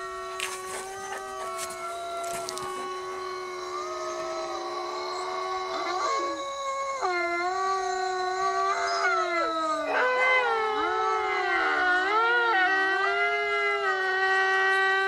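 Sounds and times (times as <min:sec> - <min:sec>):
wolves howling through phone speaker: 0:00.0 - 0:15.0.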